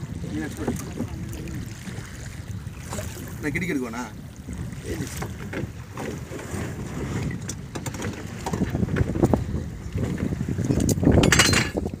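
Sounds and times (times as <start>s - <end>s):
boat engine low rumble: 0.0s - 12.0s
wind on microphone: 0.0s - 12.0s.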